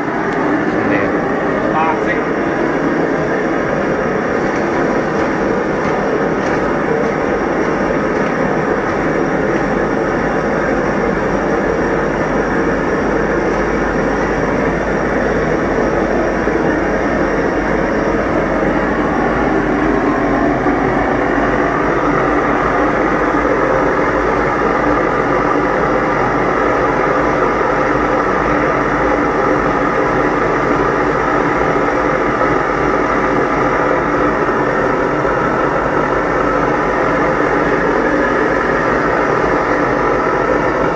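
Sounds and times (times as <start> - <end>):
gas burner flame rushing: 0.0 - 40.9.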